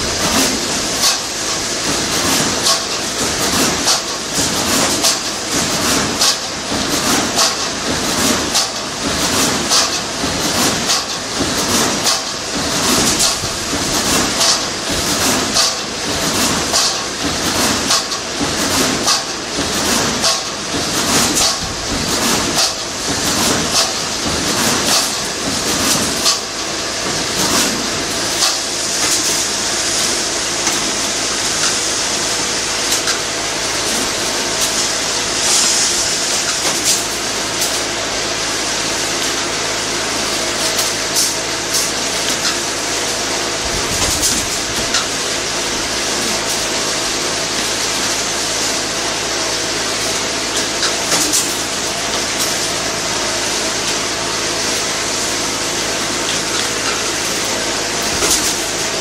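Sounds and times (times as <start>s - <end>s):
machine clicks and clacks: 0.0s - 37.9s, 40.5s - 48.9s, 49.5s - 54.9s, 56.2s - 59.0s
welding machine hum: 0.0s - 59.0s.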